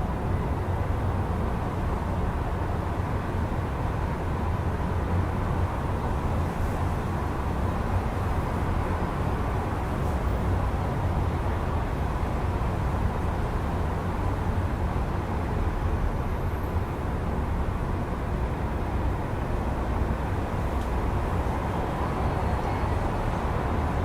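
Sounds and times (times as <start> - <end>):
distant city traffic hum: 0.0 - 24.0.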